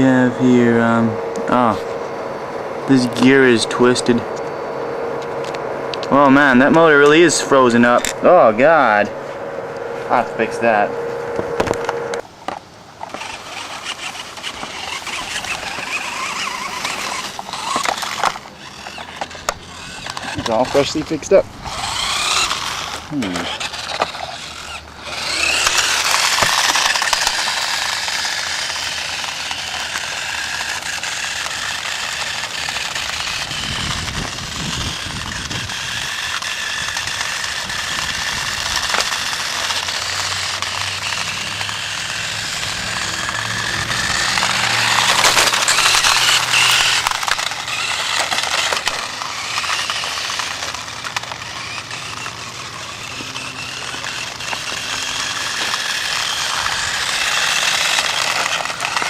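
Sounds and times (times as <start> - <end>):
toy car motors rattling: 2.9 - 4.3, 5.4 - 9.1, 11.6 - 59.0.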